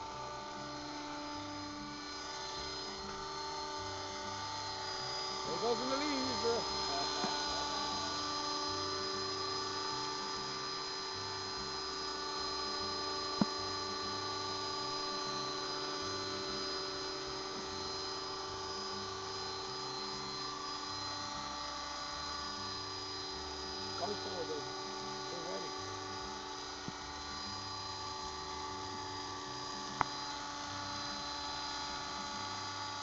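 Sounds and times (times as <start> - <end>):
rc helicopter motor whine: 0.0 - 33.0.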